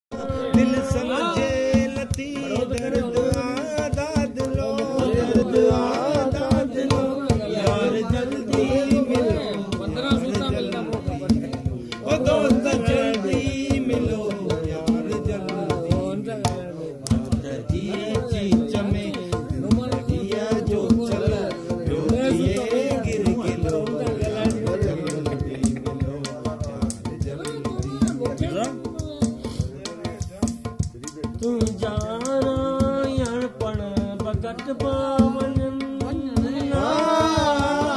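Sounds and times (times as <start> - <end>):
hand drum fast rhythm: 0.1 - 37.9.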